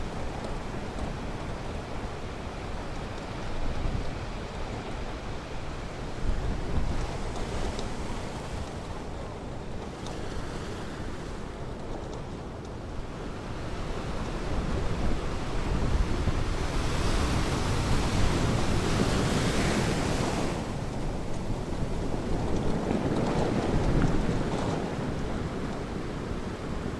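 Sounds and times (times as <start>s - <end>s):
ocean waves rumbling: 0.0s - 26.9s.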